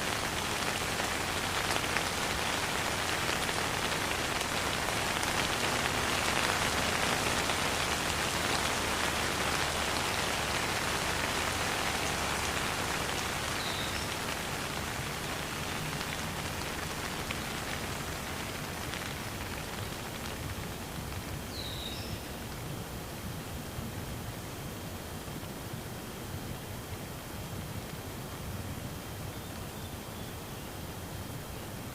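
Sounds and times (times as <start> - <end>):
rain falling: 0.0 - 30.1.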